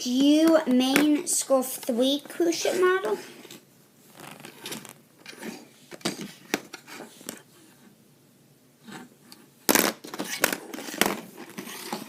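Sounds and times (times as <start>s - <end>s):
plastic models rustling and scraping: 0.0s - 8.0s, 8.8s - 12.0s.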